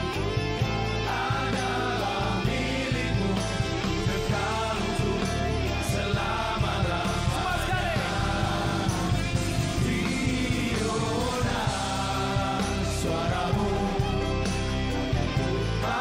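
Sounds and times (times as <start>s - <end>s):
electric guitars: 0.0s - 16.0s
keyboards: 0.0s - 16.0s
steady drum beat: 0.0s - 16.0s
voices singing: 0.0s - 16.0s.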